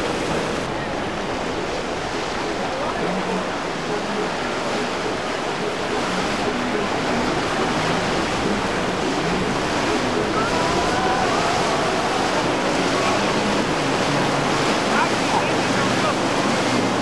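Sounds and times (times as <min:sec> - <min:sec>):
boat rushing through water: 0:00.0 - 0:17.0.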